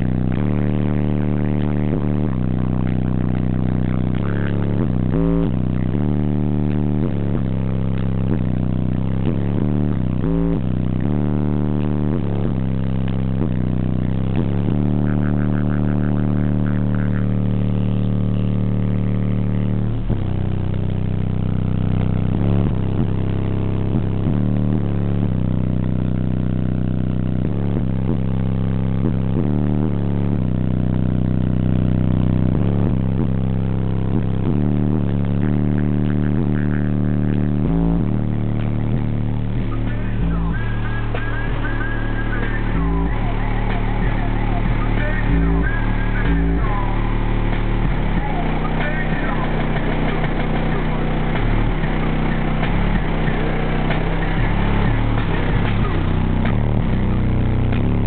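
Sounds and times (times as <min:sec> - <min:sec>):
loud bass-heavy music: 0:00.0 - 0:58.0.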